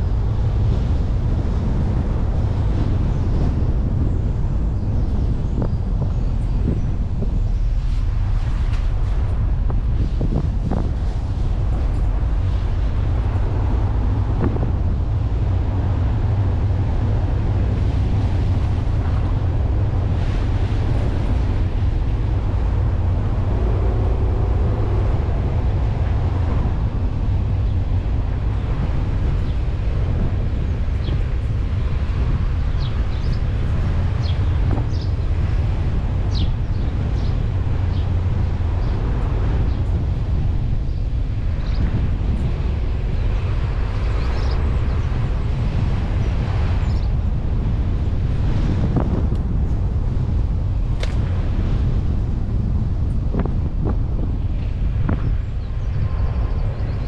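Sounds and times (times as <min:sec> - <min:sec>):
tyre and engine noise: 0:00.0 - 0:55.4
wind buffeting microphone: 0:00.0 - 0:57.0.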